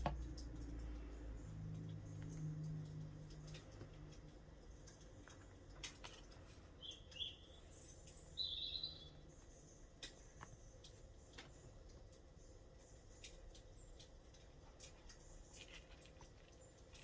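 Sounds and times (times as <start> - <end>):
faint sharp clicks: 0.0 - 7.3, 9.2 - 17.0
songbirds chirping: 0.0 - 17.0.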